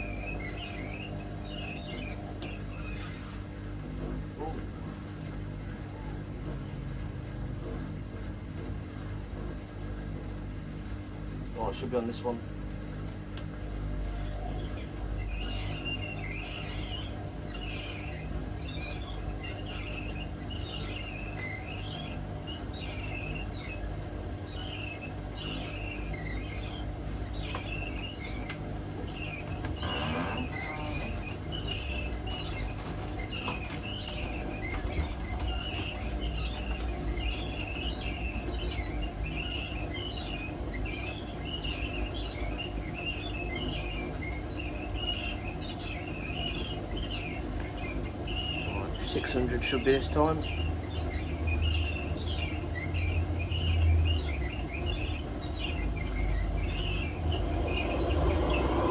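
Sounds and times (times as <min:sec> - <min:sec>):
high squeaks of drum: 0:00.0 - 0:05.0, 0:14.1 - 0:58.9
washing machine drum rumbling: 0:00.0 - 0:58.9.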